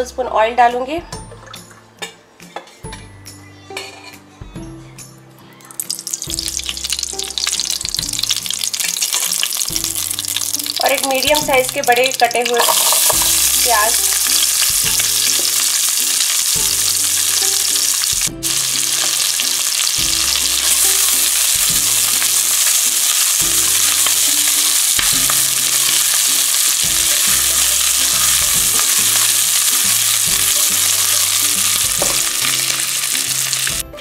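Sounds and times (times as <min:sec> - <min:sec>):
onions sizzling in hot oil: 0:05.8 - 0:33.8.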